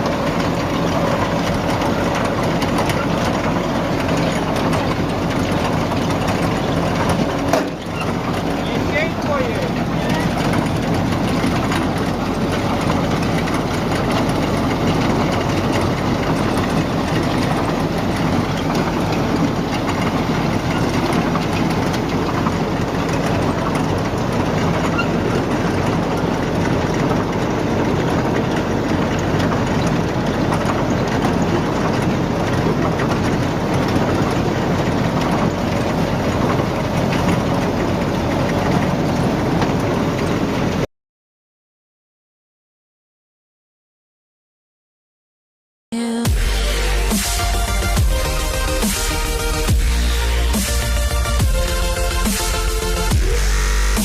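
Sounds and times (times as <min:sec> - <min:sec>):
heavy machinery engine clattering: 0:00.0 - 0:40.9, 0:46.2 - 0:54.0.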